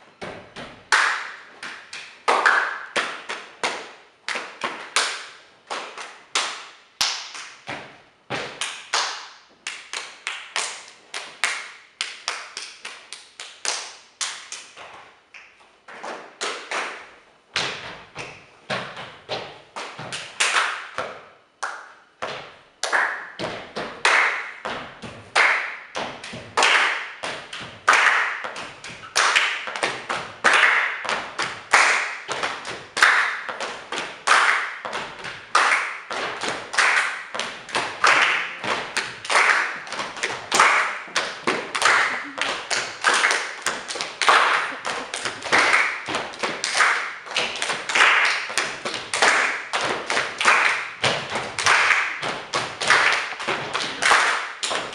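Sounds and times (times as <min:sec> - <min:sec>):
body percussion claps and slaps: 0:00.2 - 0:54.9.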